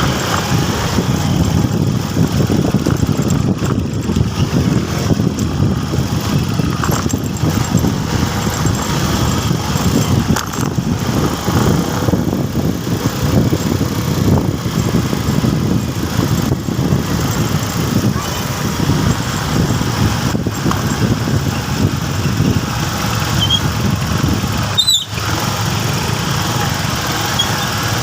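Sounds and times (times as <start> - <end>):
motorcycle engine running: 0.0 - 28.0
road and traffic noise: 0.0 - 28.0.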